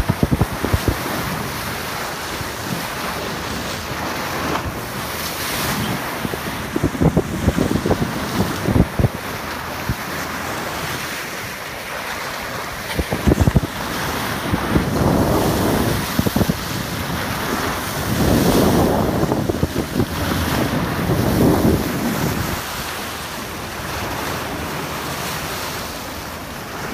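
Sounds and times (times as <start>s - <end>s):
wind buffeting microphone: 0.0s - 25.3s
sea water rushing along boat: 0.0s - 26.9s.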